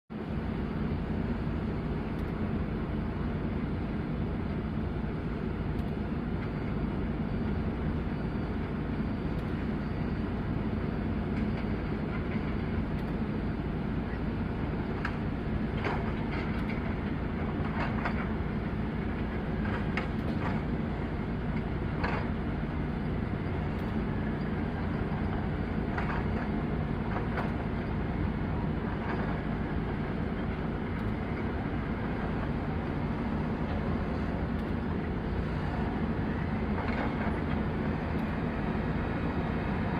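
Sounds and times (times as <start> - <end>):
excavator diesel engine running: 0.1 - 39.9.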